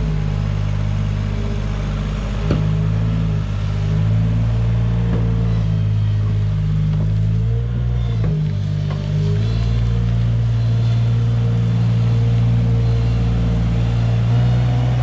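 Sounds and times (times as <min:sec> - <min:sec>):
loader engine running: 0:00.0 - 0:15.0.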